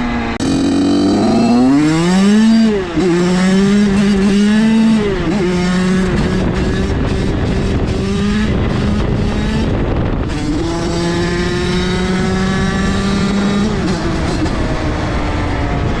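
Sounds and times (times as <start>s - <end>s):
two-stroke motorbike engine revving: 0.0s - 15.2s.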